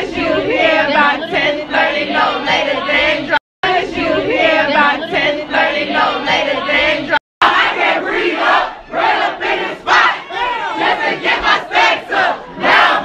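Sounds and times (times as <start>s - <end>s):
crowd singing and shouting: 0.0s - 13.0s.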